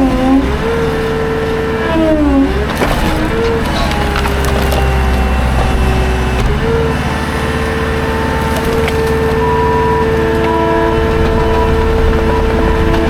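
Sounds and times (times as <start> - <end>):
skid steer engine whining: 0.0 - 13.0.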